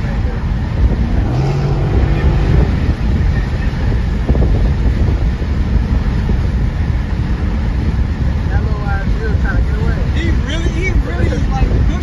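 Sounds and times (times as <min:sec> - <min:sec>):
car engine rumble: 0:00.0 - 0:12.0
road and wind noise: 0:00.0 - 0:12.0.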